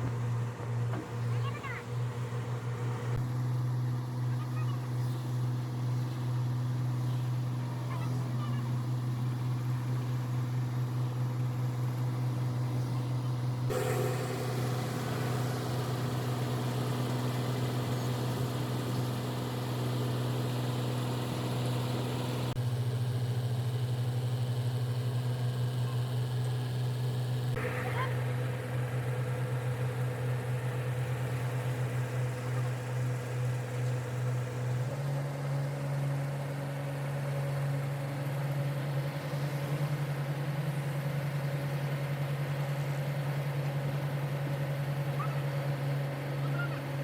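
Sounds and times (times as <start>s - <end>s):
machinery engine droning: 0.0s - 47.0s.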